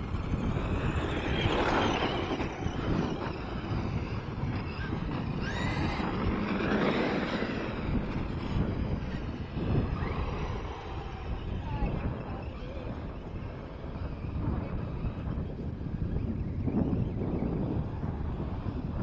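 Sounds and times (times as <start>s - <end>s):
radio-controlled truck motor whine: 0.0s - 19.0s
wind buffeting microphone: 0.0s - 19.0s.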